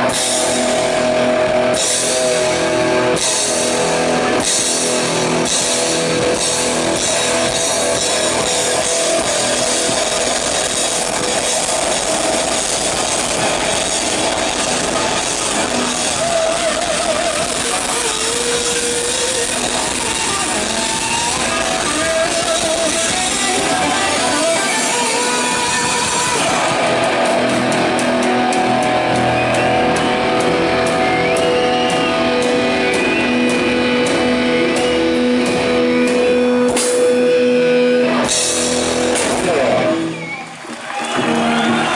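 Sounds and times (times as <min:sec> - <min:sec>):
electric guitars: 0:00.0 - 0:41.9.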